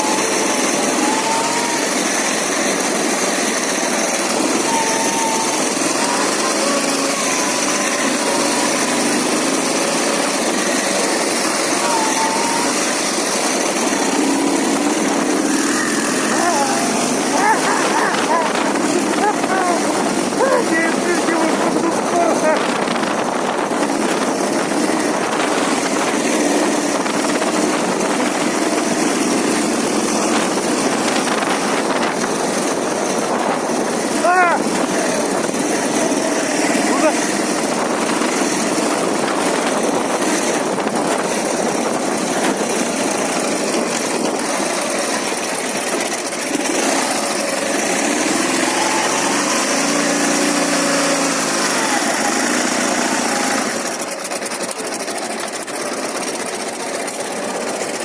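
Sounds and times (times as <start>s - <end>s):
constant rushing noise: 0.0s - 58.0s
motorcycle engine running: 0.0s - 58.0s.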